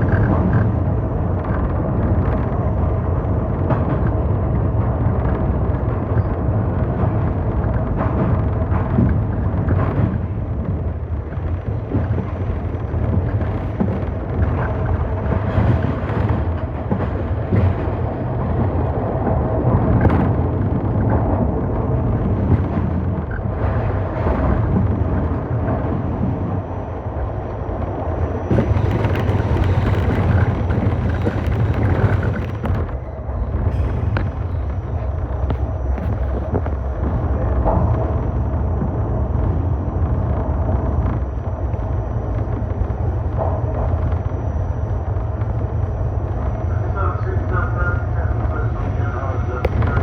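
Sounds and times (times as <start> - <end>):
constant hum: 0.0 - 50.0
subway car rumbling in tunnel: 0.0 - 50.0.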